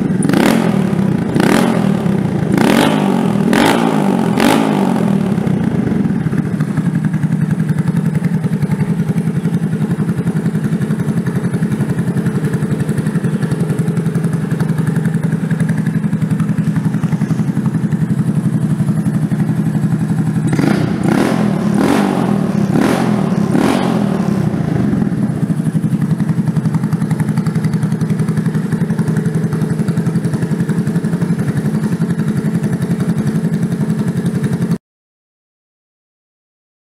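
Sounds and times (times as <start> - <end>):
motorcycle engine idling: 0.0 - 34.8.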